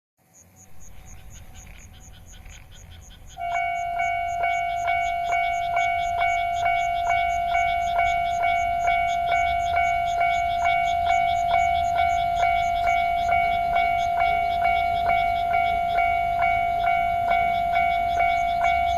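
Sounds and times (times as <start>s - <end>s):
faint ringing: 0.4s - 18.9s
level-crossing warning bell: 0.7s - 18.9s.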